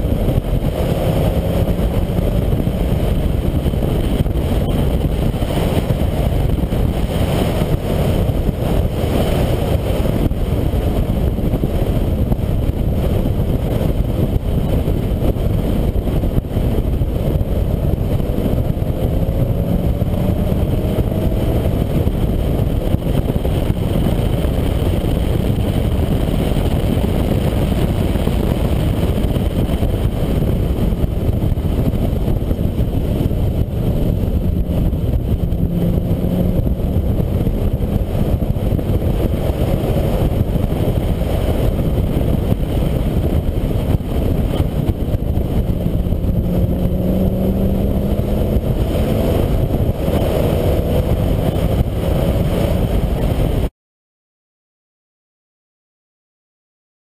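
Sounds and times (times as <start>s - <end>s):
car engine rumble: 0.0s - 53.7s
wind rush: 0.0s - 53.7s.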